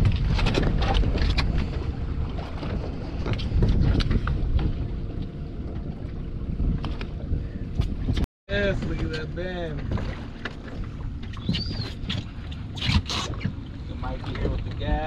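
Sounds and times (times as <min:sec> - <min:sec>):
water lapping at boat hull: 0:00.0 - 0:15.0
wind buffeting microphone: 0:00.0 - 0:15.0.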